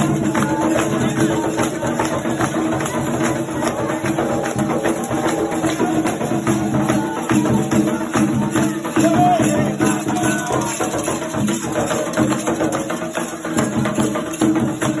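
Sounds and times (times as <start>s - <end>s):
voices singing: 0.0s - 13.6s
drums and rattling percussion: 0.0s - 15.0s.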